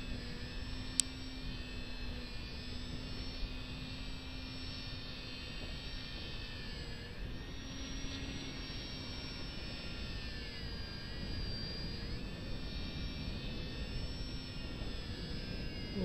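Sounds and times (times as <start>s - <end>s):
model plane motor whining: 0.0s - 16.0s
wind rumbling on microphone: 0.0s - 16.0s.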